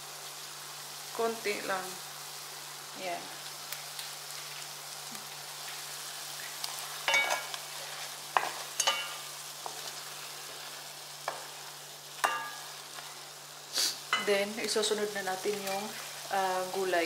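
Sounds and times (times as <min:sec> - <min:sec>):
seafood sizzling in a pot: 0:00.0 - 0:17.0.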